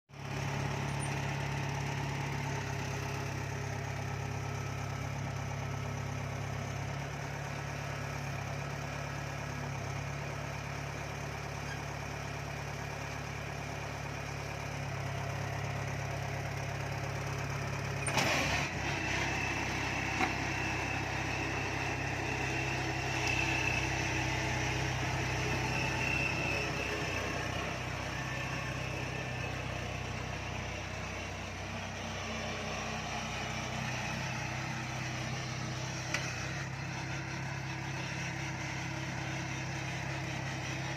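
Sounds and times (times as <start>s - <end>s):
combine harvester engine running: 0.2s - 40.9s.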